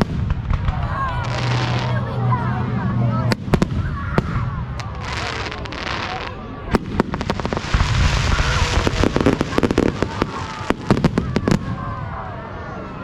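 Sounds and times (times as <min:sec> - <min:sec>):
fireworks crackling hiss: 0:00.0 - 0:02.1, 0:03.3 - 0:11.9
fireworks bangs: 0:00.0 - 0:02.3, 0:03.2 - 0:12.2.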